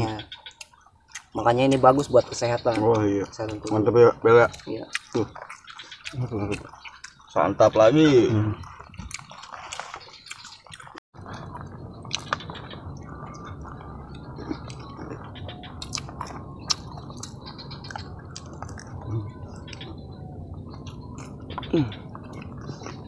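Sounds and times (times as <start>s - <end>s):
chewing and eating: 0.0s - 23.0s.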